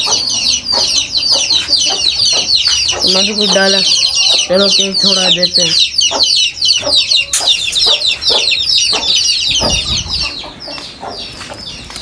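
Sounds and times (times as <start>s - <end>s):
chickens clucking: 0.0s - 12.0s
high bird chirps: 0.0s - 12.0s.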